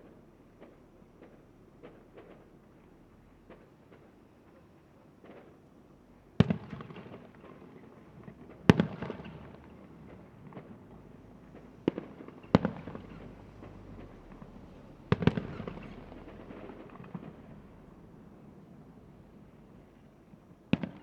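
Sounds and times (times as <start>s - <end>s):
fireworks bangs with crackling: 0.0s - 21.0s.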